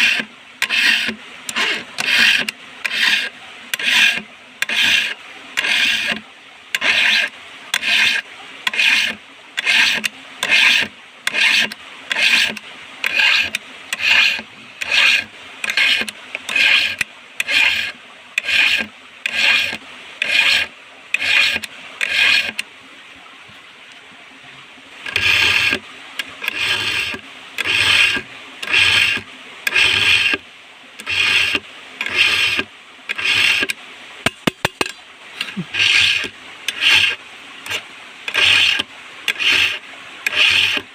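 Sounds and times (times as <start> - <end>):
file sharpening chainsaw chain: 0.0 - 6.2, 6.8 - 22.6, 25.0 - 30.4, 31.0 - 40.8.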